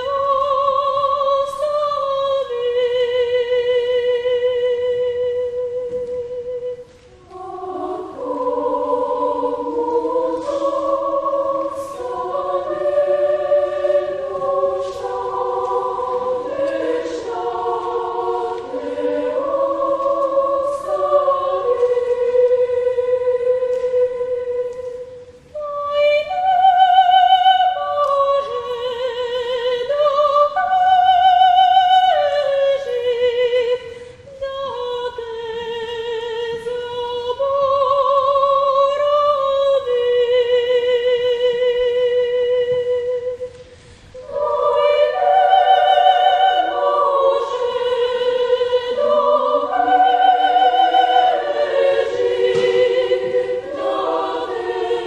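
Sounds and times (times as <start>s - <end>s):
children's choir singing in harmony: 0.0s - 55.0s.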